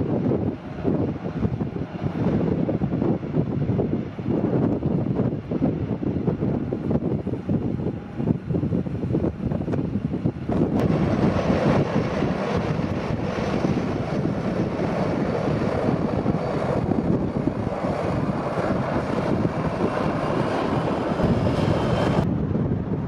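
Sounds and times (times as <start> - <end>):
jet engines taxiing: 0.0 - 23.0
wind buffeting microphone: 0.0 - 23.0.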